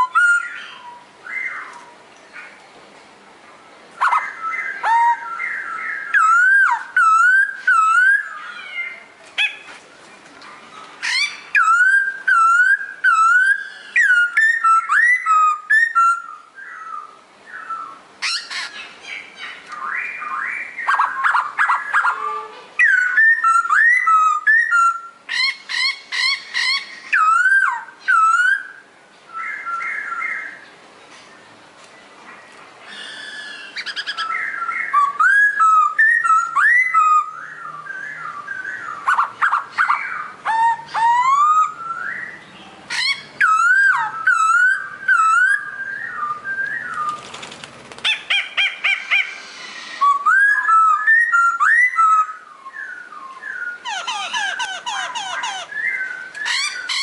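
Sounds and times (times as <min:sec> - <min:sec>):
songbird whistling: 0:00.0 - 0:02.0, 0:04.0 - 0:09.6, 0:11.0 - 0:30.6, 0:32.9 - 0:47.3, 0:48.1 - 0:57.0.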